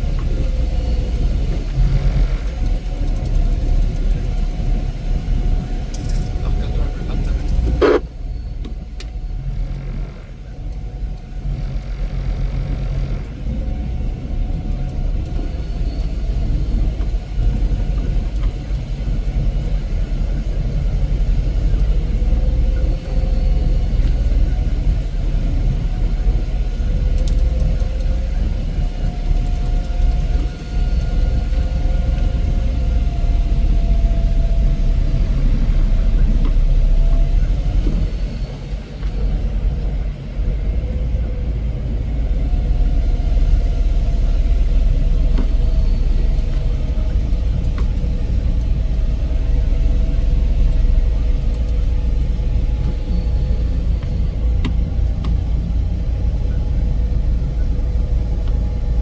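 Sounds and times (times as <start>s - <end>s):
heavy machinery rumbling: 0.0s - 59.0s.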